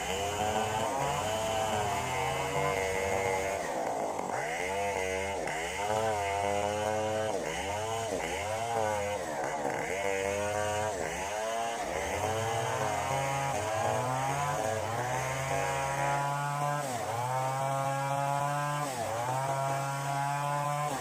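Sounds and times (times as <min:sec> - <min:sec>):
chainsaw cutting a log: 0:00.0 - 0:21.0.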